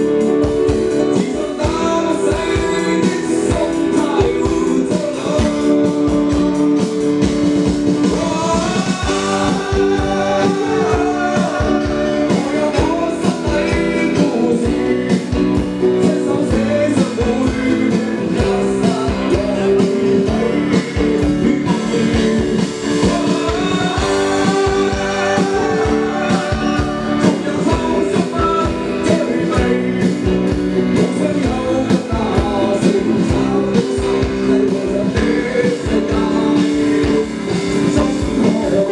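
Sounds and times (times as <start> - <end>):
live rock band: 0.0 - 38.9
person singing lead vocal: 0.0 - 38.9
drum beat: 0.1 - 38.8.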